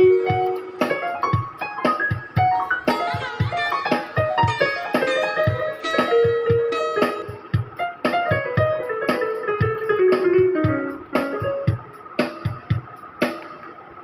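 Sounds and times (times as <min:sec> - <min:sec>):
plucked guitar-like melody: 0:00.0 - 0:11.9
steady drum beat: 0:00.0 - 0:13.6.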